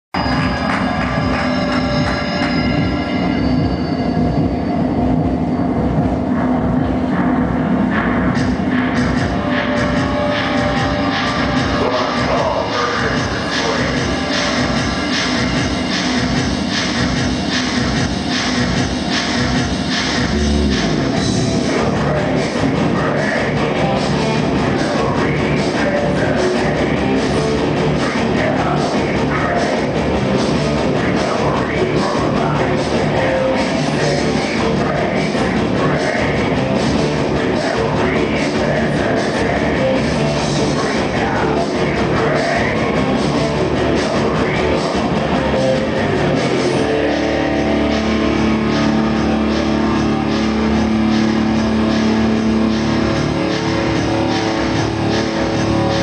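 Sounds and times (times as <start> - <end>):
distorted guitars: 0.1 - 56.0
drum kit: 0.1 - 56.0
industrial metal band playing: 0.2 - 56.0.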